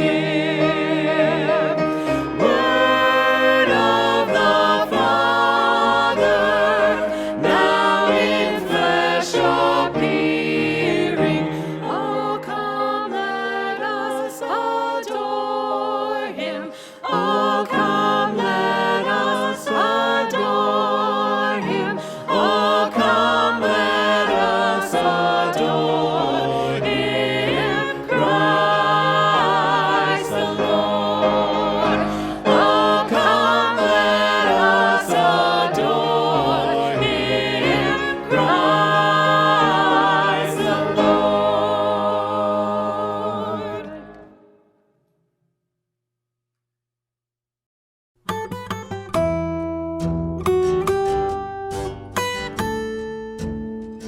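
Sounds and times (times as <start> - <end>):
choir singing: 0.0 - 44.6.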